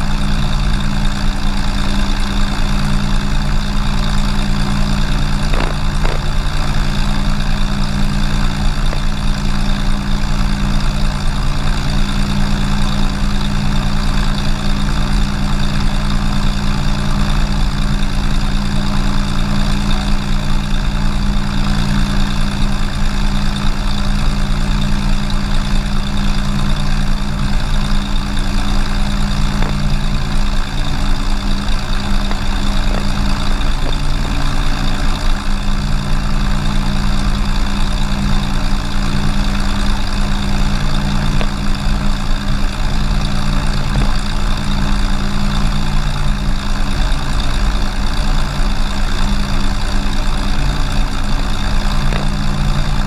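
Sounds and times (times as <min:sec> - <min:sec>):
aircraft piston engine running: 0:00.0 - 0:53.0.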